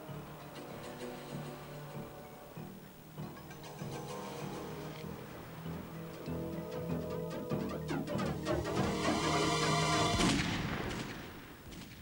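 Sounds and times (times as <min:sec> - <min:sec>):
sustained music chords: 0:00.0 - 0:10.3.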